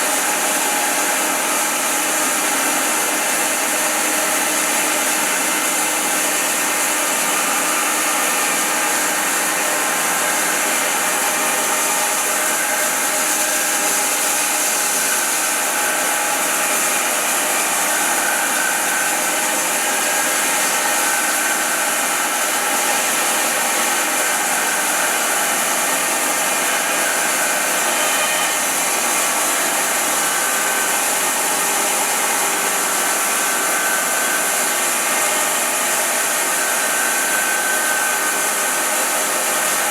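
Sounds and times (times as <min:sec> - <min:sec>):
bandsaw sawing wood: 0:00.0 - 0:39.9.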